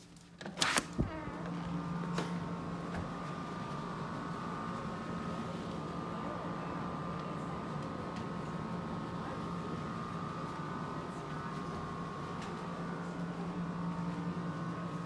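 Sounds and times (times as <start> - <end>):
mechanical hum with whine: 0.0 - 15.0.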